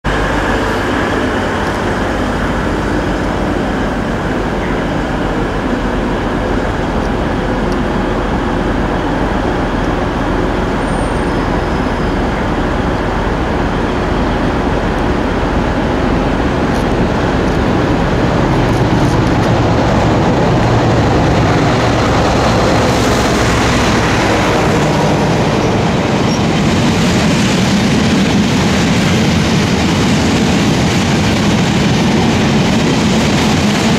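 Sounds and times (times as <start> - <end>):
diesel locomotive passing: 0.0 - 33.9
diesel train running: 0.0 - 33.9
heavy freight wagons rumbling: 0.0 - 33.9.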